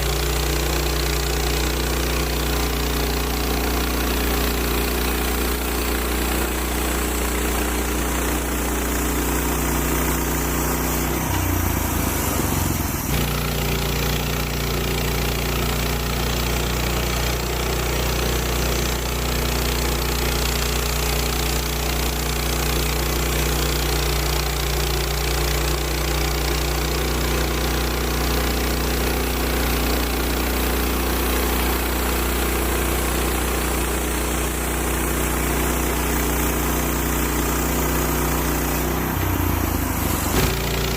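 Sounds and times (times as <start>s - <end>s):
gas engine running: 0.0s - 40.9s
saw cutting through log: 0.0s - 40.9s.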